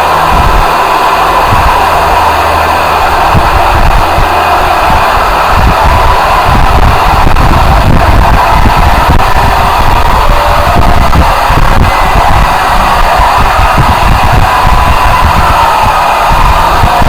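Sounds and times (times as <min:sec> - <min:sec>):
loud distorted noise roar: 0:00.0 - 0:17.0.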